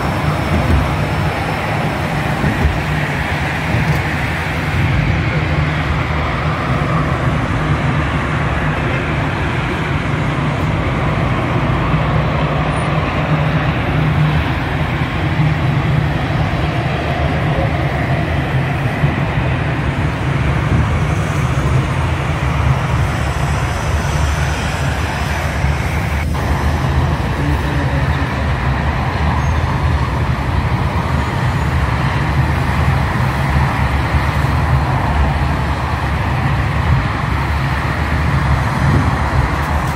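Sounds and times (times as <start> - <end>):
highway traffic rumble: 0.0 - 39.9.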